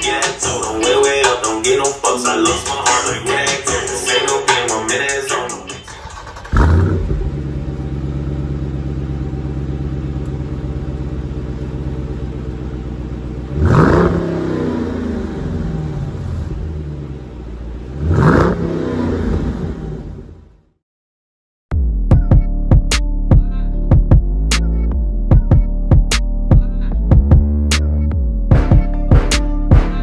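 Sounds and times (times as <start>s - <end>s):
car engine idling and revving: 0.0s - 20.7s, 23.8s - 30.0s.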